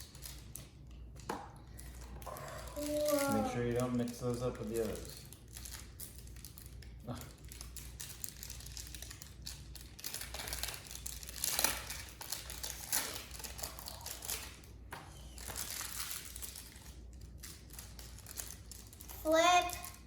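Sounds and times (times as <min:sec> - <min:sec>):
packaging crinkling: 0:01.8 - 0:20.0.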